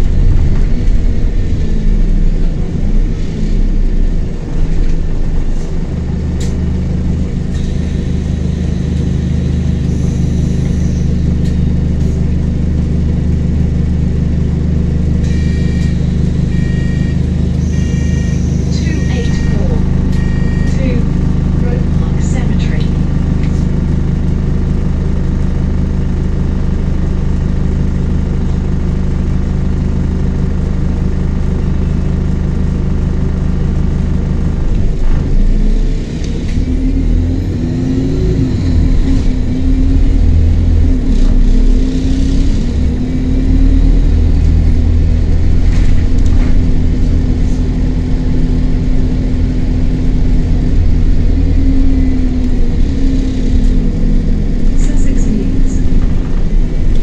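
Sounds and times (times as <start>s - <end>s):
diesel bus engine idling and revving: 0.0s - 57.0s.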